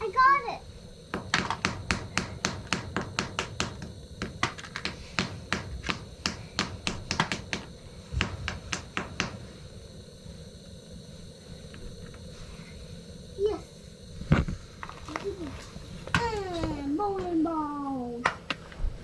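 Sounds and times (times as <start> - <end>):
pilot igniter clicking: 0.0 - 17.4.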